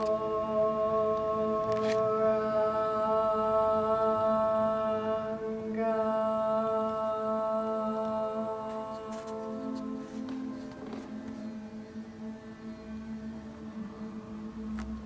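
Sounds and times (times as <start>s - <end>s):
slow meditative chant music: 0.0s - 15.0s.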